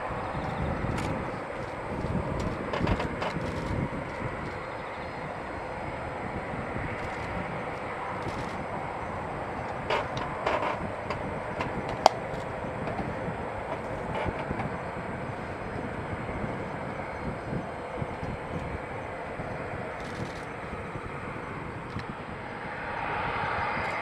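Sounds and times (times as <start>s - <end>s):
distant jet engines rumbling: 0.0s - 24.0s.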